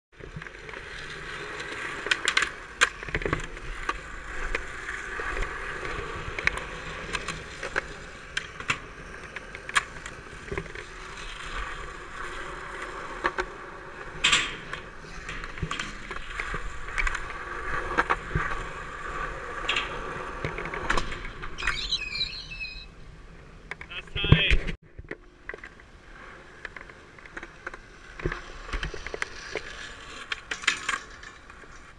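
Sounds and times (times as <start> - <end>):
skateboard wheels rolling on concrete: 0.1 - 31.9
skateboard clacks: 0.3 - 21.6, 23.6 - 31.9.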